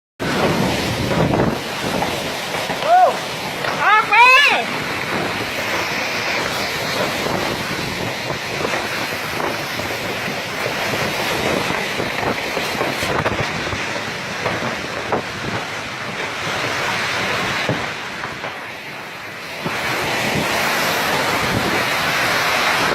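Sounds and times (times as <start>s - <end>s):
strong wind buffeting microphone: 0.2s - 22.9s.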